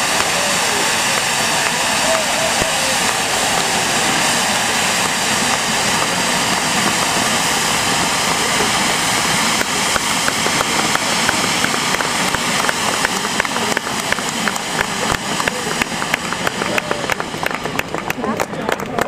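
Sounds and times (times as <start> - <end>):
fireworks fountains hissing: 0.0 - 19.0.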